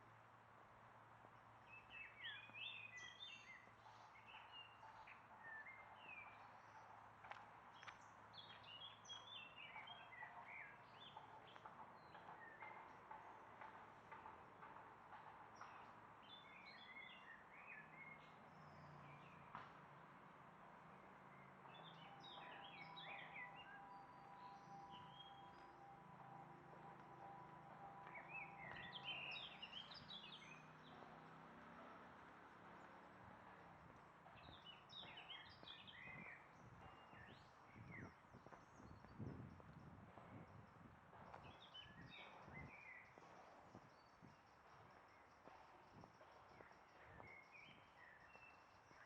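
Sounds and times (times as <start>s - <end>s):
faint birdsong chirping: 1.5s - 7.0s, 7.6s - 49.0s.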